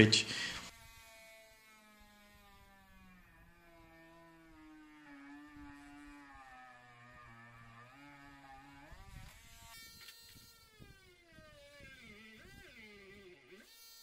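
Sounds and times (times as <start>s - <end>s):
masking tape peeling crackles: 0.6s - 14.0s.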